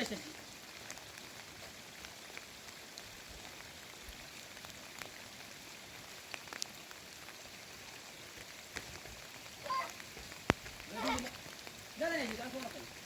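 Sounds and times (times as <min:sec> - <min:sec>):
raindrops ticking close by: 0:00.0 - 0:13.0
steady rain: 0:00.0 - 0:13.0.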